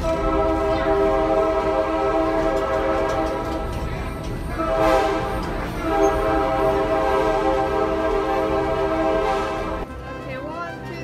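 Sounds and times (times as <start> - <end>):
train carriage rumble: 0.0 - 11.0.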